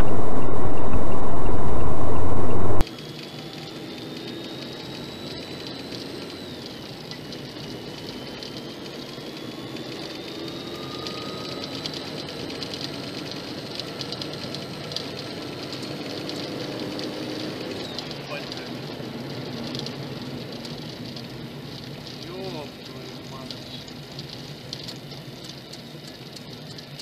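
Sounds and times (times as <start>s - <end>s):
car engine and tyre noise: 0.0s - 2.8s, 3.6s - 27.0s
faint high whine: 0.0s - 27.0s
light crackle: 0.0s - 27.0s.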